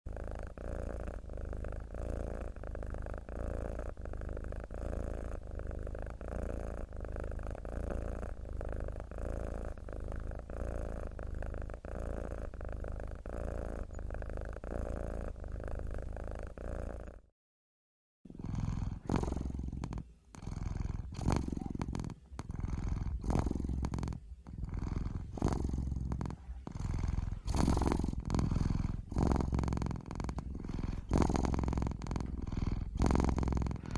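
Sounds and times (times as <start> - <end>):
cat purring: 0.1 - 17.3, 18.3 - 33.9.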